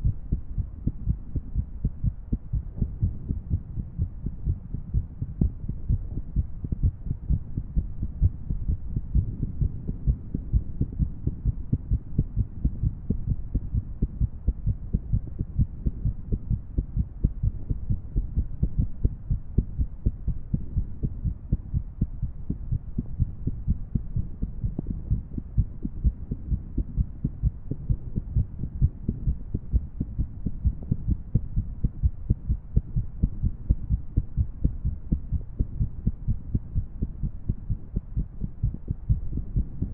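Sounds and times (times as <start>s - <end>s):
muffled heartbeat thuds: 0.0s - 39.9s.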